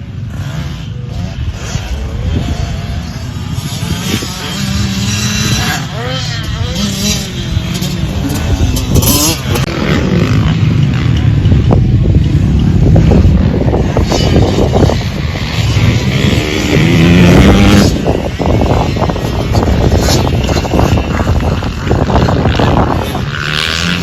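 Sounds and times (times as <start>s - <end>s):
dirt bike engine revving: 0.0s - 24.0s
wind rumble on microphone: 0.0s - 24.0s.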